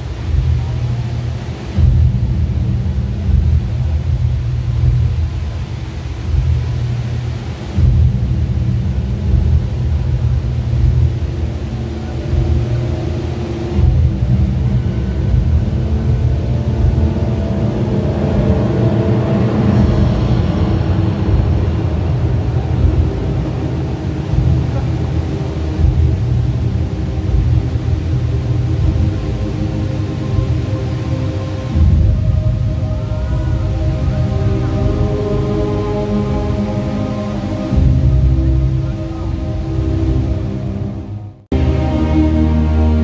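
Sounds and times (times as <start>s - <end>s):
waterfall pouring into pool: 0.0s - 40.4s
light show music: 0.0s - 43.0s.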